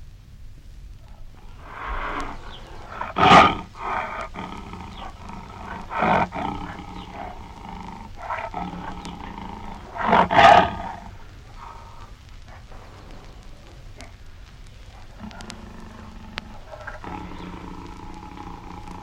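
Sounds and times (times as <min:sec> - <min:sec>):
lion roaring: 0:01.4 - 0:19.0.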